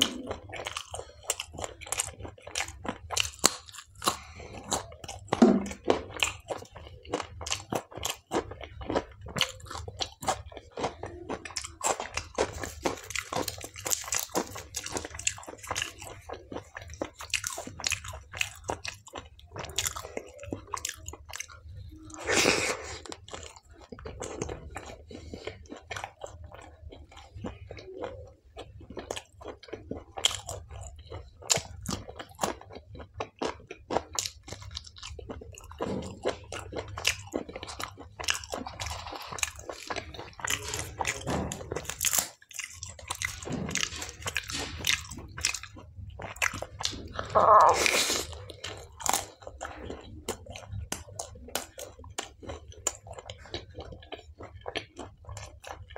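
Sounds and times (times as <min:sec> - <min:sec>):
chewing and crunching food: 0:00.0 - 0:55.9.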